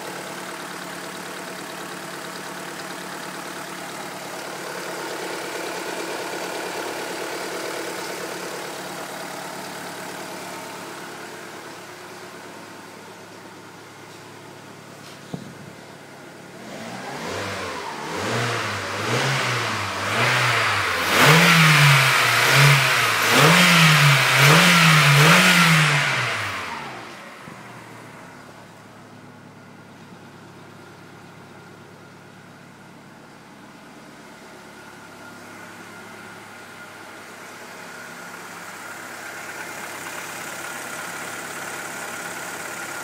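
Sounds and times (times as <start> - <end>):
car engine idling and revving: 0.0 - 43.0.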